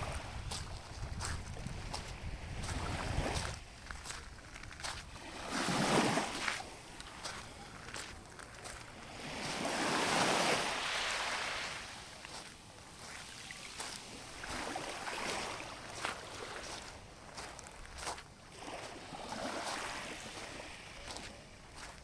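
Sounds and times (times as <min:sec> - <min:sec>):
sea waves washing ashore: 0:00.0 - 0:04.2, 0:04.8 - 0:22.0.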